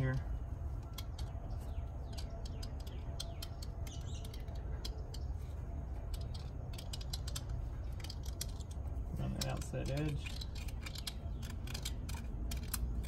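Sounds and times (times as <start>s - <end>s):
steady low hum: 0.0s - 13.0s
metal pick clicking and scraping: 0.8s - 13.0s.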